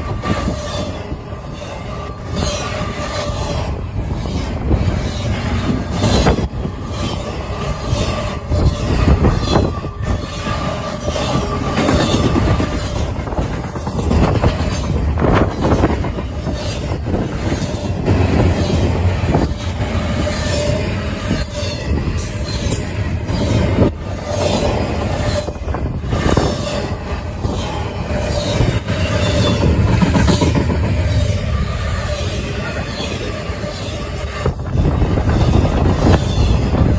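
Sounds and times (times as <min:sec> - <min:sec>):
train wheels rumbling on rail: 0:00.0 - 0:36.9
wheels clicking over rail joints: 0:00.0 - 0:36.9
wheels squealing: 0:00.0 - 0:36.9.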